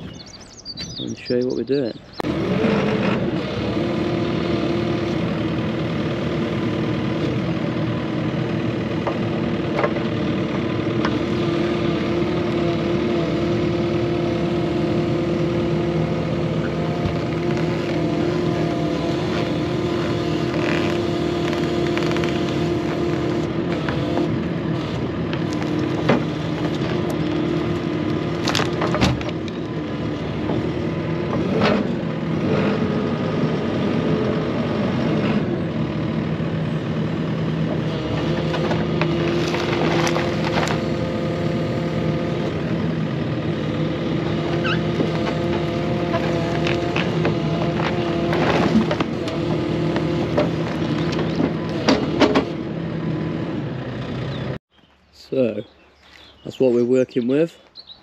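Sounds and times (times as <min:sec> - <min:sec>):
excavator diesel engine whining: 0:00.0 - 0:58.0.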